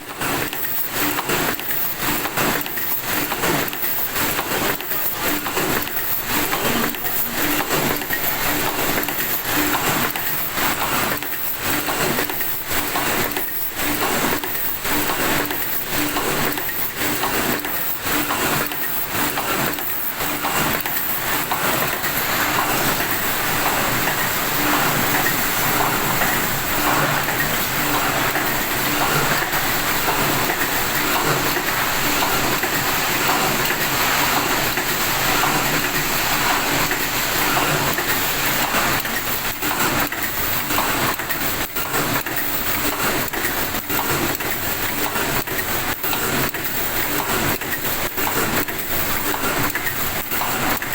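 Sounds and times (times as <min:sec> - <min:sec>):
mechanical hum and hiss: 0:00.0 - 0:50.9
machine clattering strokes: 0:00.1 - 0:50.9.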